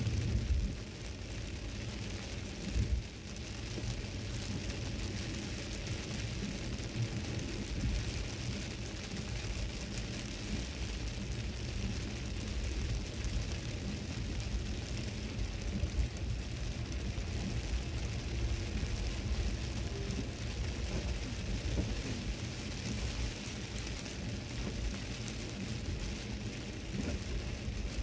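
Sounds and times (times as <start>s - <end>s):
low road rumble: 0.0s - 28.0s
rain on car: 0.0s - 28.0s
tyres hissing on wet pavement: 0.0s - 28.0s.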